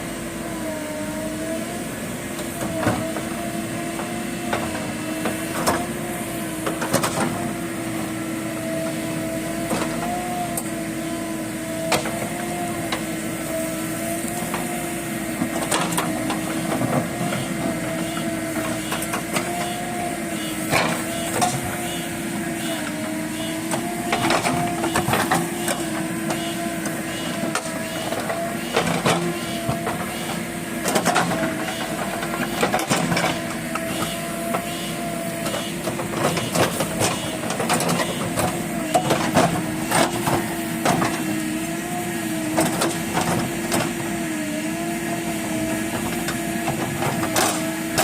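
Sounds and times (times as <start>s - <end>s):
backhoe loader engine humming: 0.0s - 48.0s.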